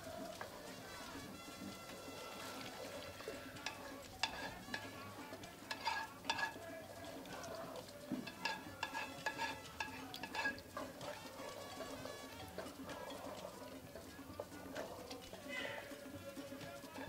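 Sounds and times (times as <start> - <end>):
wooden spatula scraping a pot: 0.0 - 17.0.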